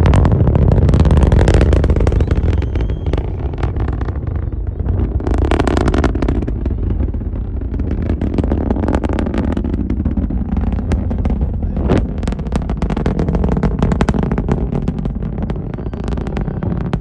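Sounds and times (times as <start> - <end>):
rocket engine rumble with crackling: 0.0 - 17.0.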